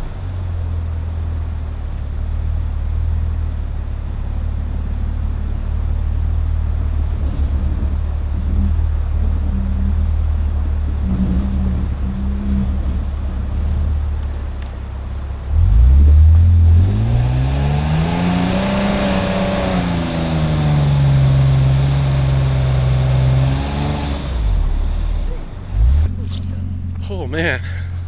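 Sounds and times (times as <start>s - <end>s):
road and tyre noise: 0.0s - 28.0s
vehicle engine revving: 0.0s - 28.0s.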